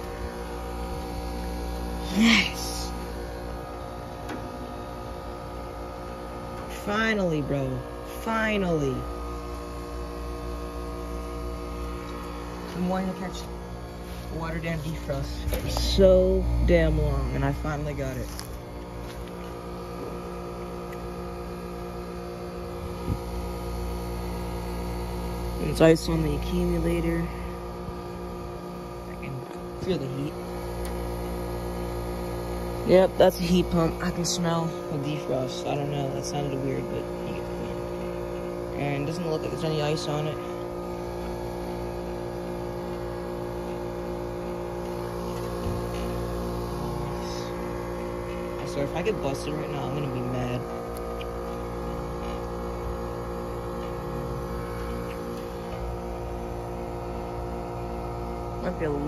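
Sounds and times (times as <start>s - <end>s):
heat pump humming: 0.0s - 59.0s.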